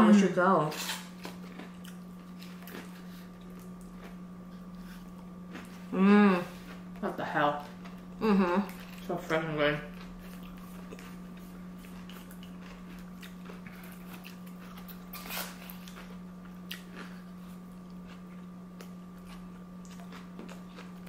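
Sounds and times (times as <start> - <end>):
steady low hum: 0.0 - 21.0
person chewing food: 0.8 - 7.0, 9.9 - 21.0.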